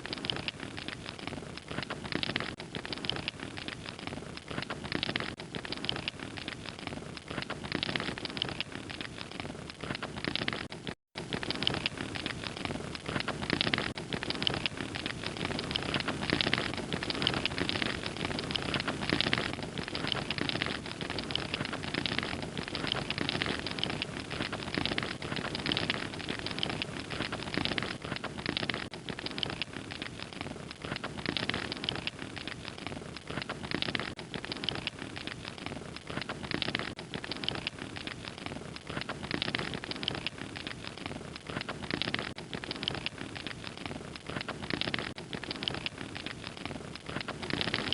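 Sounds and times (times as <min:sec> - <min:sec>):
fire pops and snaps: 0:00.0 - 0:47.9
hiss and rumble of burning: 0:00.0 - 0:47.9
wood fire crackling: 0:00.0 - 0:47.9.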